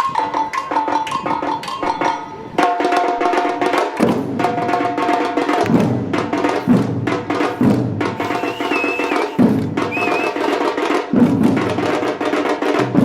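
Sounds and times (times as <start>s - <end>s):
samba percussion group drumming: 0.0s - 13.0s.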